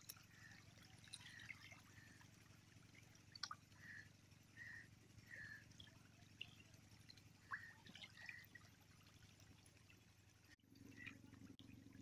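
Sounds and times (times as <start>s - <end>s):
fish splashing in water: 0.0s - 11.9s.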